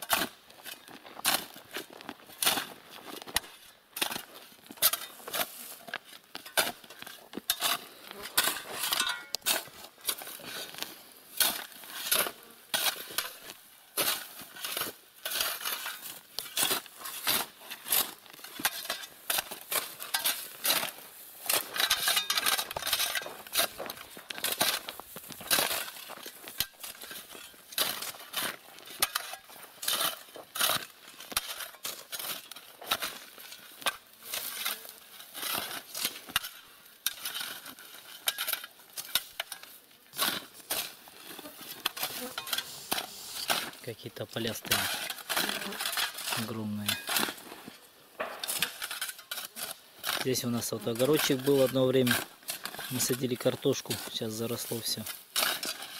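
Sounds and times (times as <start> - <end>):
shovel scraping gravel: 0.0 - 55.9.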